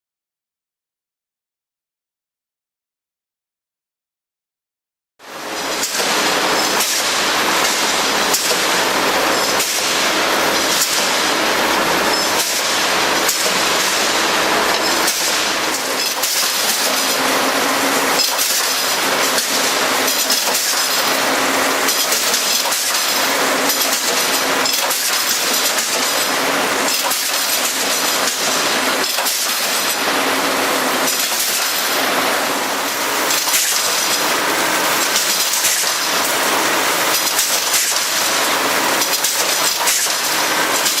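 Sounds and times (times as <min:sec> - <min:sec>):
wire cutting machine running: 0:05.2 - 0:41.0.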